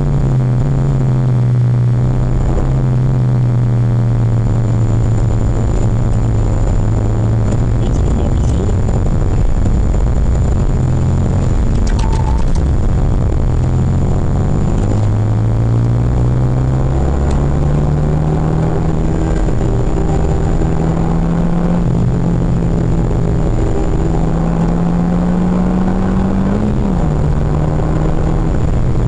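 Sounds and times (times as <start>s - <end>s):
car engine revving: 0.0s - 29.0s
road noise: 0.0s - 29.0s.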